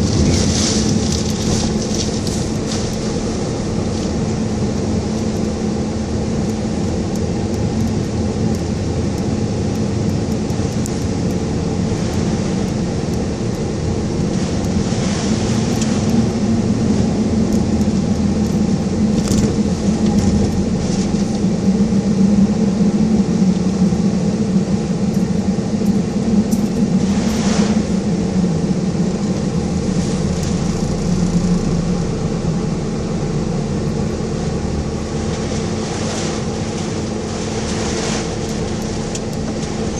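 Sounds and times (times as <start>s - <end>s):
car engine and road noise: 0.0s - 39.9s
rain: 0.0s - 39.9s
wind: 0.0s - 39.9s.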